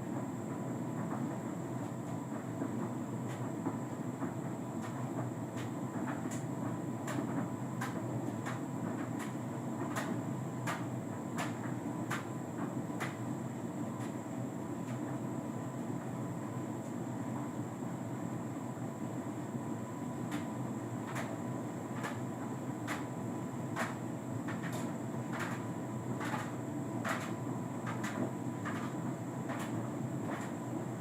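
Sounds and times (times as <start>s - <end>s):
tumble dryer drum rumble: 0.0s - 31.0s.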